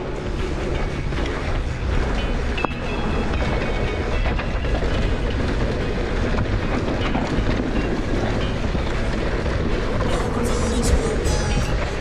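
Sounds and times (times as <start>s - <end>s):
bike rattling: 0.0s - 12.0s
tyre and trail noise: 0.0s - 12.0s.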